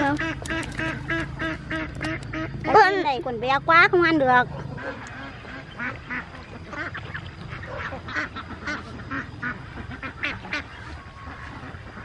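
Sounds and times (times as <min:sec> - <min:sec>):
waterfowl quacking: 0:00.0 - 0:03.0, 0:04.0 - 0:12.0.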